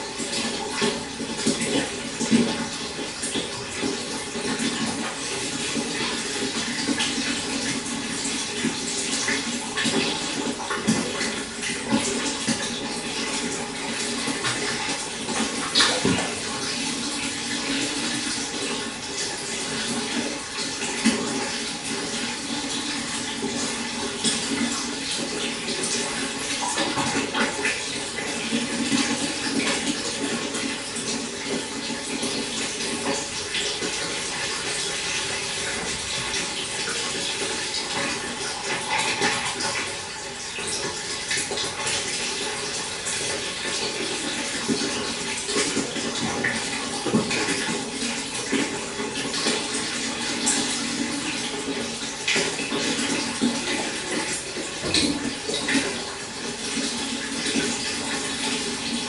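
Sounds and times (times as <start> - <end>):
running water splashing: 0.0 - 59.0.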